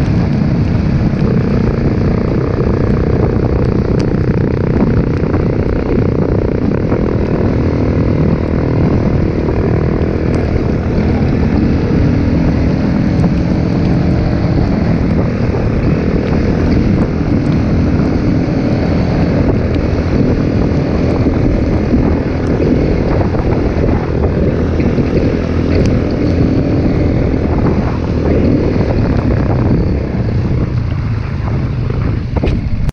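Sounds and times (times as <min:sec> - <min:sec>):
motorcycle engine running: 0:00.0 - 0:32.9
wind rushing over microphone: 0:00.0 - 0:32.9.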